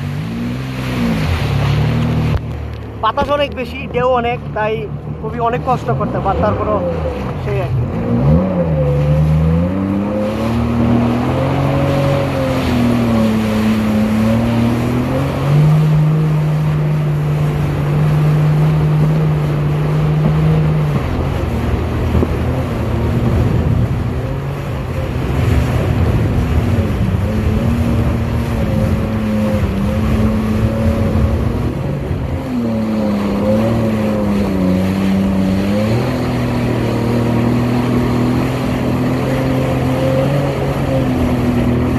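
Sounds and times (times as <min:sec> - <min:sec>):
jet ski engine running: 0:00.0 - 0:41.9
water splashing: 0:00.0 - 0:41.9
wind rush: 0:06.8 - 0:41.9.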